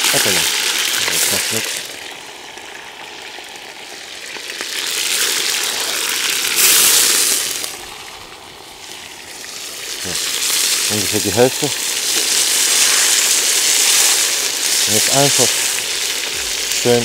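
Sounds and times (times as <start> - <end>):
beef sizzling in hot fat: 0.0 - 17.0.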